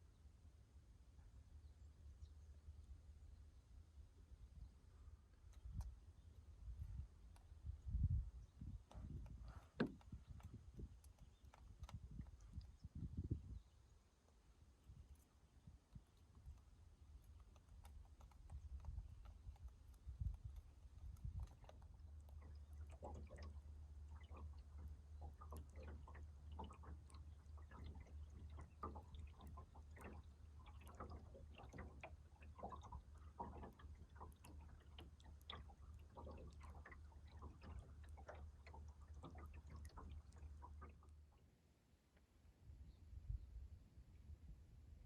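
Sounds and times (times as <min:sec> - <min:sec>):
low steady hum: 0:00.0 - 0:45.0
small ticks on hull: 0:01.1 - 0:44.2
ripples lapping wooden hull: 0:01.2 - 0:45.0.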